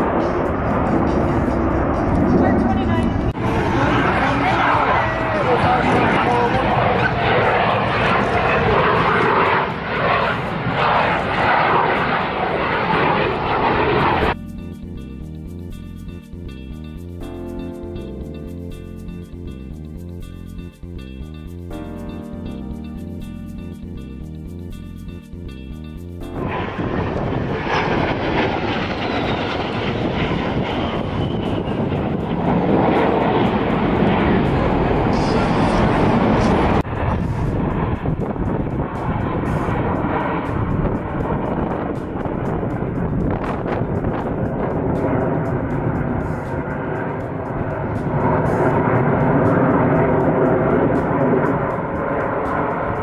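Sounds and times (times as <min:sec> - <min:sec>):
fighter jet engine noise: 0:00.0 - 0:14.4, 0:23.6 - 0:53.0.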